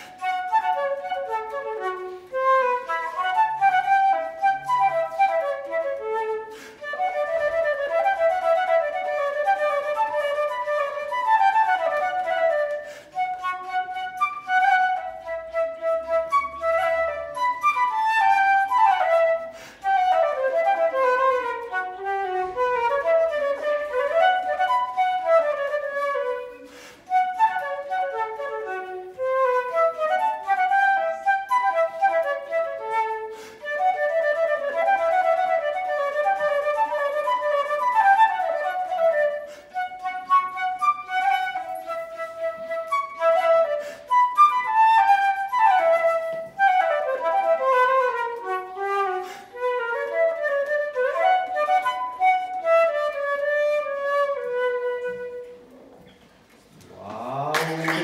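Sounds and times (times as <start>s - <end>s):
flute melody: 0.0s - 58.0s.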